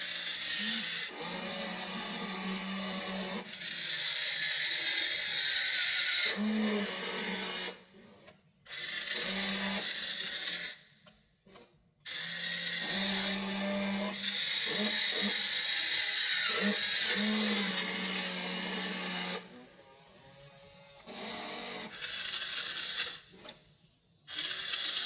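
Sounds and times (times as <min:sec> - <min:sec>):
small electric motors whirring: 0:00.0 - 0:10.9, 0:11.5 - 0:23.6, 0:24.2 - 0:25.0.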